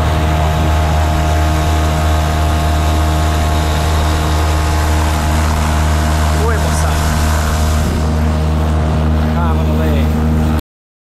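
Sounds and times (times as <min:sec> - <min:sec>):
outboard motor running: 0:00.0 - 0:10.6.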